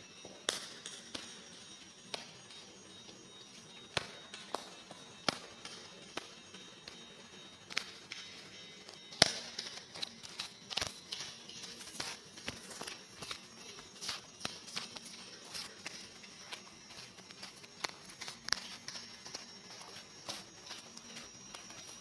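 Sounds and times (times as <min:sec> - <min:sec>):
high whine: 0:00.0 - 0:22.0
crackles and clicks: 0:00.1 - 0:22.0.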